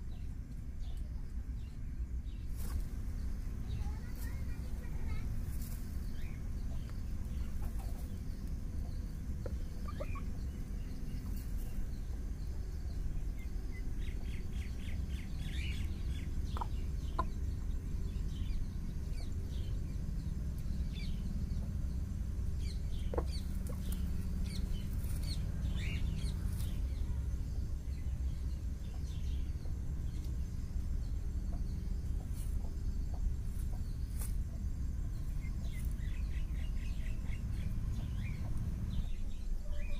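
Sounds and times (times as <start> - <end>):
steady low rumble: 0.0 - 39.9
hens clucking: 2.5 - 27.8, 28.6 - 39.9.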